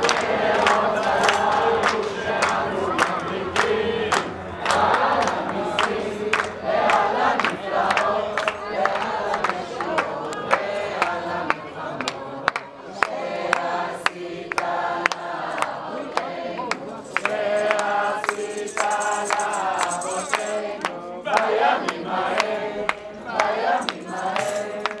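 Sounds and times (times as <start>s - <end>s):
crowd singing together: 0.0s - 25.0s
rhythmic hand clapping: 0.0s - 25.0s.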